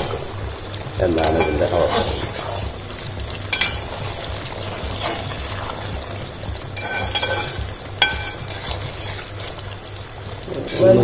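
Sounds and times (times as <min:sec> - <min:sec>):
curry bubbling in pot: 0:00.0 - 0:11.0
ladle stirring: 0:01.1 - 0:11.0.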